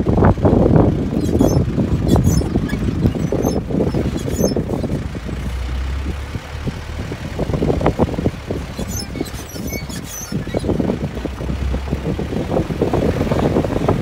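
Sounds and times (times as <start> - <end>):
vehicle engine rumbling: 0.0 - 14.0
vehicle knocks and rattles: 0.0 - 14.0.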